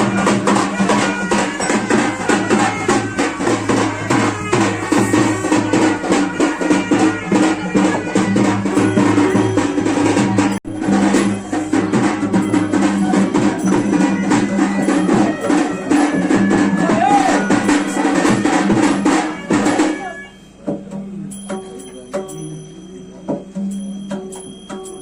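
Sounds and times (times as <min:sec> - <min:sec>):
rapid drumming: 0:00.0 - 0:25.0.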